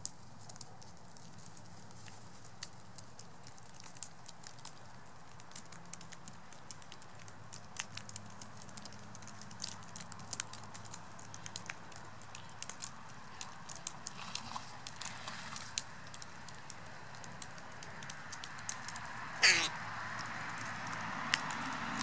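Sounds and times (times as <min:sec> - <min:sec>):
bird beak cracking seeds: 0:00.0 - 0:22.0.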